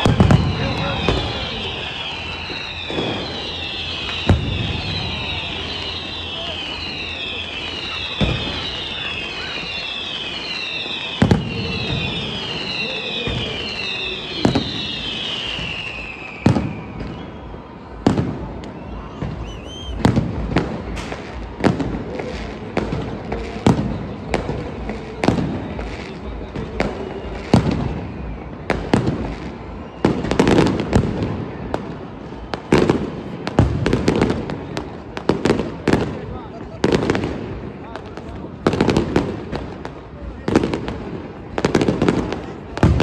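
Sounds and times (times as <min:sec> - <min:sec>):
falling firework whistles: 0:00.0 - 0:43.0
fireworks bangs and cracks: 0:00.0 - 0:43.0.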